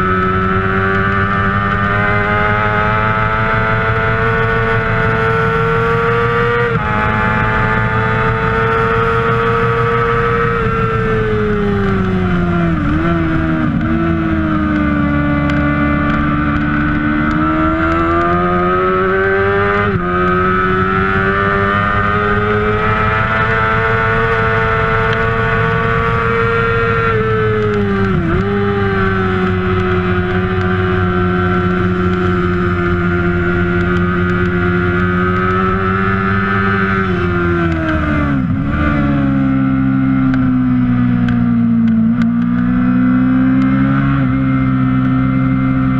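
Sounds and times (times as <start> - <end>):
sport bike engine revving high: 0.0 - 45.9.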